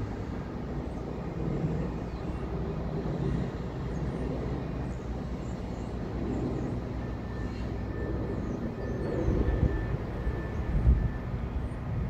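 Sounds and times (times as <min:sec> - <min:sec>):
distant vehicle rumble: 0:00.0 - 0:12.0.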